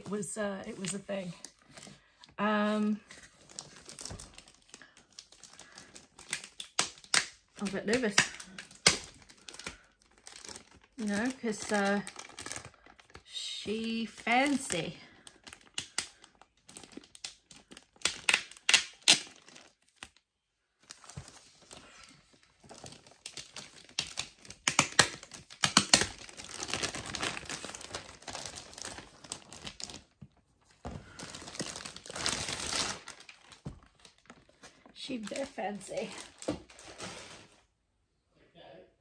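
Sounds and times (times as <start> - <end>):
plastic wrap crinkling: 0.0 - 20.2, 20.8 - 37.7.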